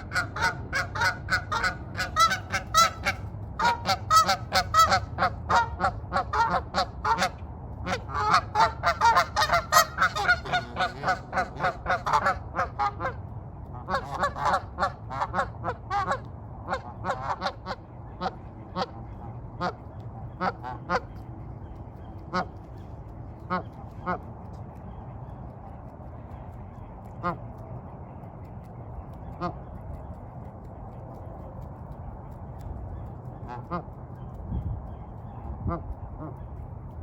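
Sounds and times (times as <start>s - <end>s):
geese honking: 0.0s - 28.2s, 29.1s - 30.2s, 33.0s - 34.3s.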